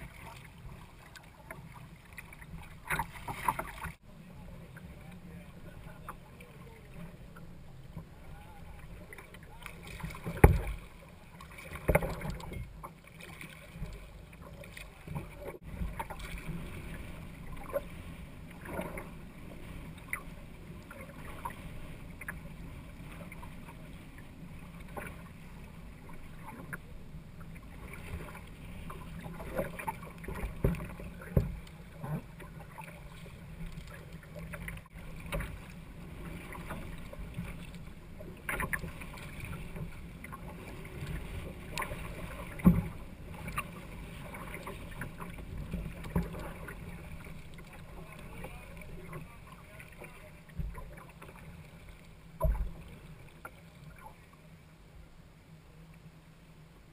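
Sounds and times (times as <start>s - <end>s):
water splashing against kayak: 0.0s - 55.0s.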